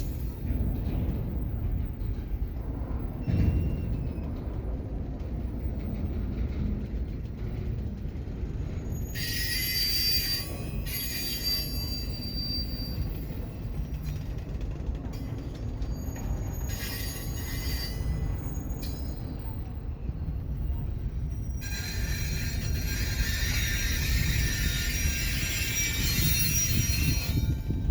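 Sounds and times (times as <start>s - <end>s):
train railcars rumbling past: 0.0s - 27.9s
train wheel squeal: 0.0s - 27.9s.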